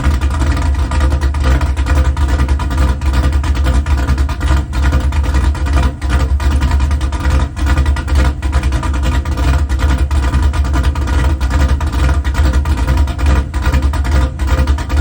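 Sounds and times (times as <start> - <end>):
lopey engine idling: 0.0 - 15.0.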